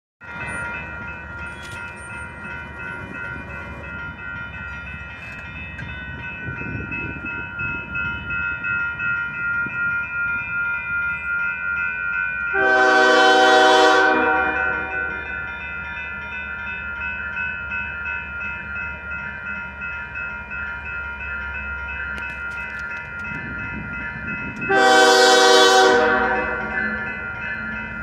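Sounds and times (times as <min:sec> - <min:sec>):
crossing bell ringing: 0:00.2 - 0:28.0
freight train rumble: 0:00.2 - 0:28.0.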